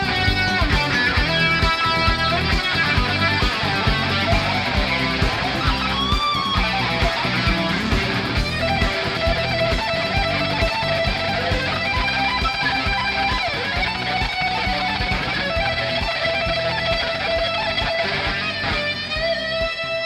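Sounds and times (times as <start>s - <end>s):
instrumental rock band music: 0.0s - 20.0s.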